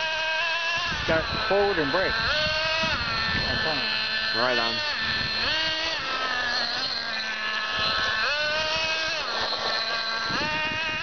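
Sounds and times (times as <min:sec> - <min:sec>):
toy car motor buzzing and revving: 0:00.0 - 0:11.0.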